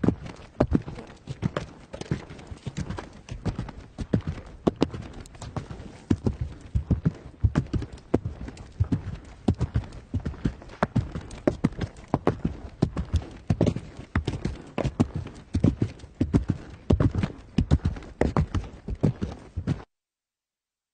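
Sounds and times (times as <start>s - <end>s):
horse hooves galloping: 0.0s - 19.9s.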